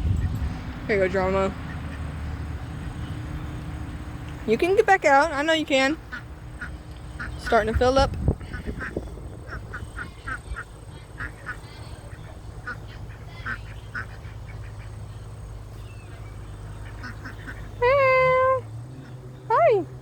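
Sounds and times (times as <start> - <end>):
ducks quacking: 1.4 - 3.4, 4.0 - 19.6.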